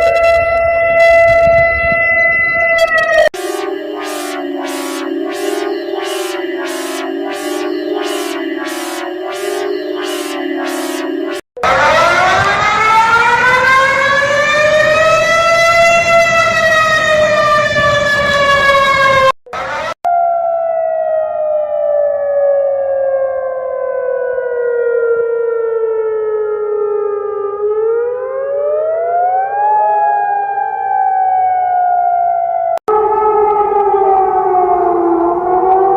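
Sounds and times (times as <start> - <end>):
harsh warning siren: 0.0 - 35.9
wailing warning siren: 0.0 - 35.9.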